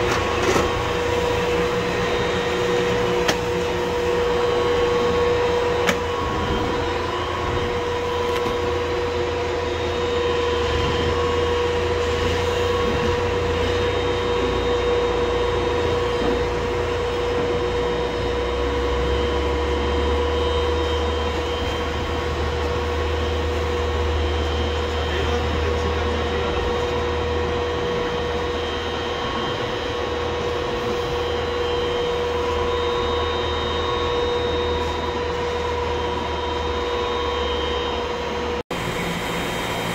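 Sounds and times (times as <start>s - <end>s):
feed mixer whine and rumble: 0.0s - 39.9s.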